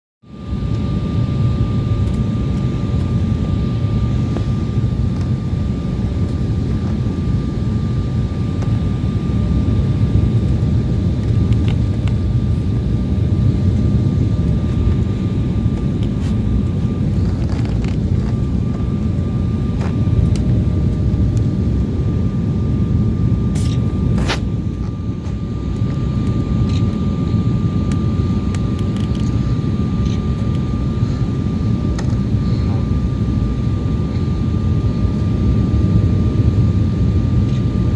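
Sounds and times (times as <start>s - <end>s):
thin steady whine: 0.2s - 37.9s
airliner cabin engine rumble: 0.3s - 37.9s.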